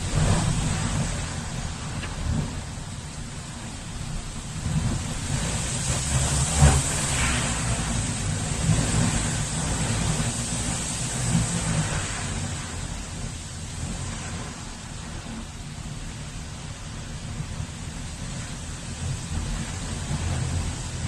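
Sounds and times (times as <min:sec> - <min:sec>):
gusty wind buffeting microphone: 0:00.0 - 0:21.0.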